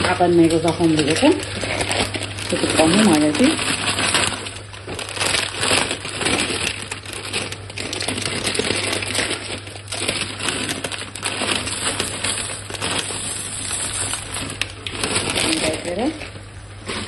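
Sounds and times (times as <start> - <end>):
dry pasta pouring: 0.0 - 17.0
plastic bag crinkling: 0.0 - 17.0.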